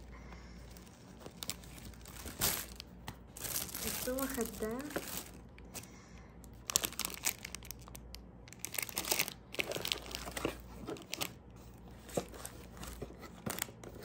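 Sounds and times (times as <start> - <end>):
foil gift wrapping crinkling: 0.6 - 14.0.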